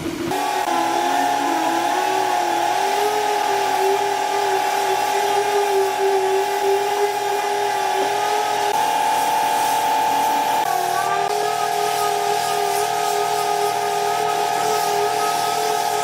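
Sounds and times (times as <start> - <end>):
power tool motor whining: 0.0 - 16.0.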